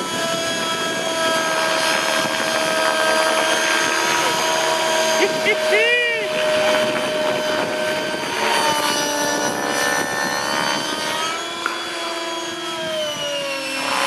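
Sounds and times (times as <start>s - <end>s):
model helicopter rotor whine: 0.0s - 14.0s.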